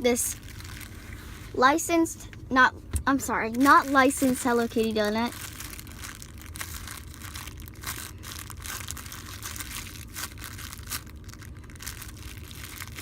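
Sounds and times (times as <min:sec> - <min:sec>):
foam toy crinkling and rustling: 0:00.0 - 0:01.6, 0:03.4 - 0:13.0
small crackles: 0:00.2 - 0:01.5, 0:03.5 - 0:13.0.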